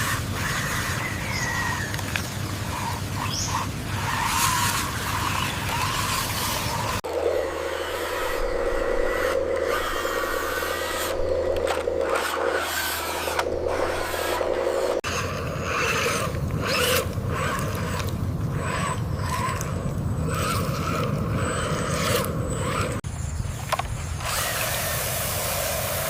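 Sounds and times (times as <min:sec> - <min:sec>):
scraping and rasping: 0:00.0 - 0:23.0
small electric motors whining: 0:00.0 - 0:23.0, 0:23.7 - 0:26.0.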